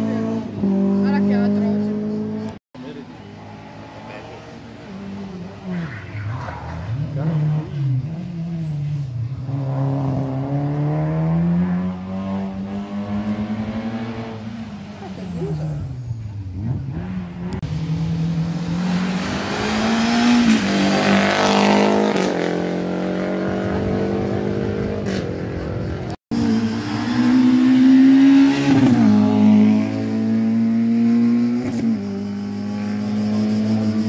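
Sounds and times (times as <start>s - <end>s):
race car engines revving: 0.0s - 34.0s.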